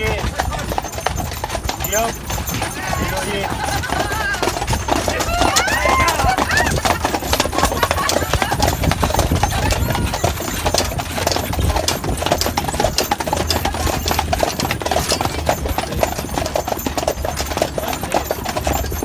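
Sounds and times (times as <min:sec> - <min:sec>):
carriage low rumble: 0:00.0 - 0:19.0
hooves clip-clopping on asphalt: 0:00.0 - 0:19.0.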